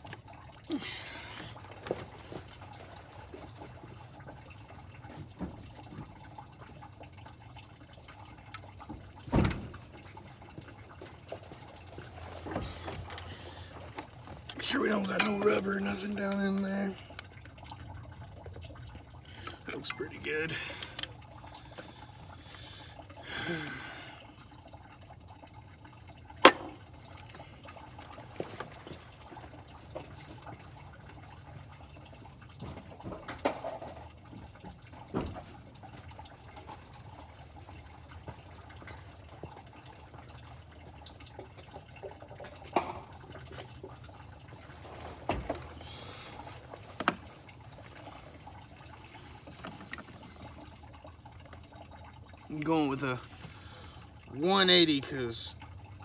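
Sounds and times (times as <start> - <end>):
coolant trickling and dripping: 0.0 - 56.0.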